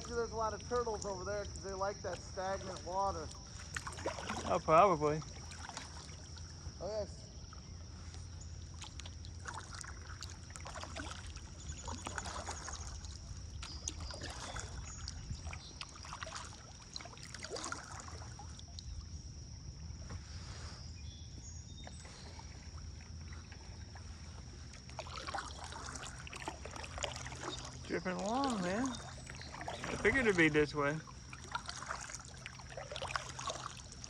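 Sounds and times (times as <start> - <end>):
paddle splashing in water: 0.0 - 20.8, 21.8 - 34.0.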